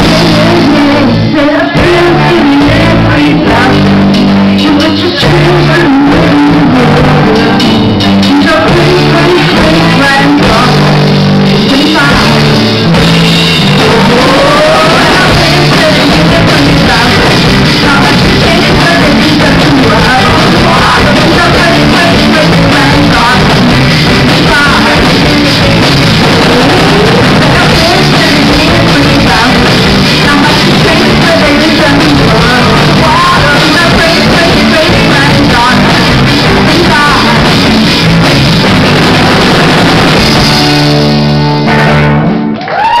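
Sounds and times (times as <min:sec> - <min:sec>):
person singing: 0:00.0 - 0:42.2
live rock band playing: 0:00.0 - 0:43.0.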